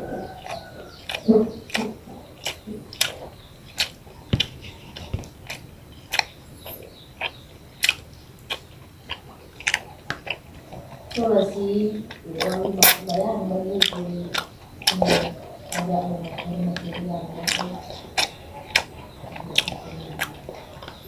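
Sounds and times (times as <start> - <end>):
person chewing with wet smacks: 0.2 - 21.0.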